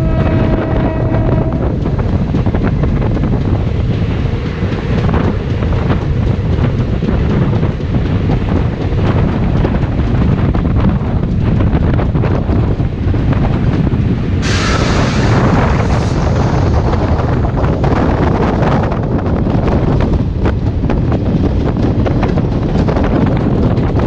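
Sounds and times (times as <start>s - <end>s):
train wheels rumbling: 0.0s - 24.0s
wind rushing over microphone: 0.0s - 24.0s.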